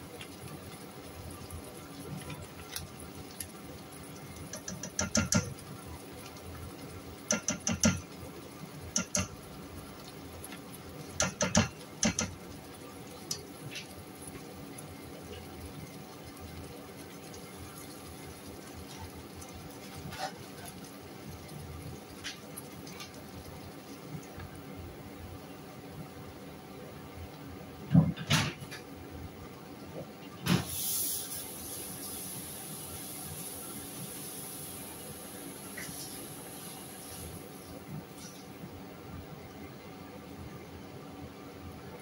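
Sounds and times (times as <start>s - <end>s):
sauce simmering in a pan: 0.0s - 27.7s, 30.6s - 40.5s.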